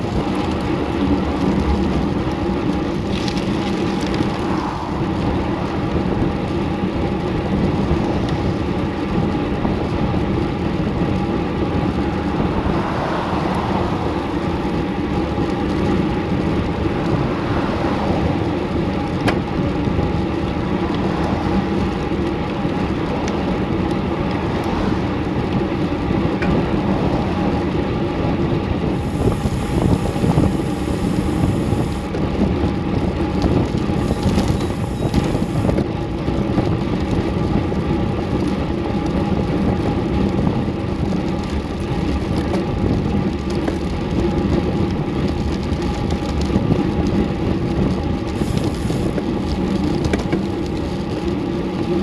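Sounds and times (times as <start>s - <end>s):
tyre noise on pavement: 0.0s - 52.0s
wind rushing over microphone: 0.0s - 52.0s.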